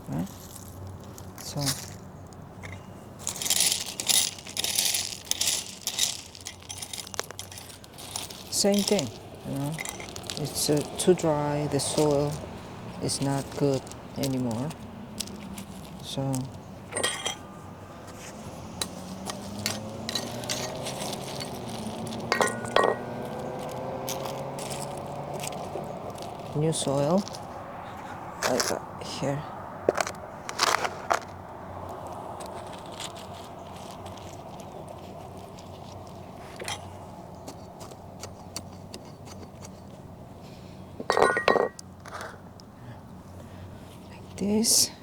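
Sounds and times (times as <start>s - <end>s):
soil and gravel crunching: 0.0s - 45.0s.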